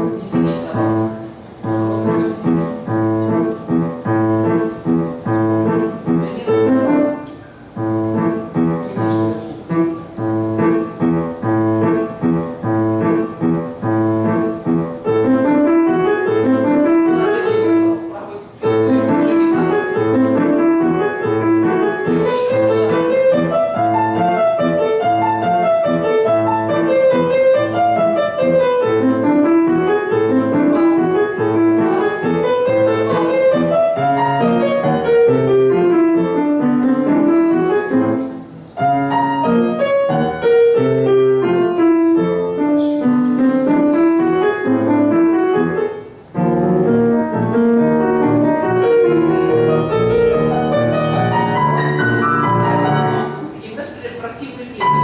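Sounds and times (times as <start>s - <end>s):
fast grand piano playing: 0.0s - 55.0s.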